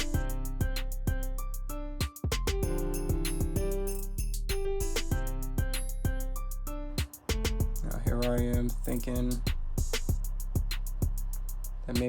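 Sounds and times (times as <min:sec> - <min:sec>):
background music with drum beat: 0:00.0 - 0:01.4, 0:02.0 - 0:12.0.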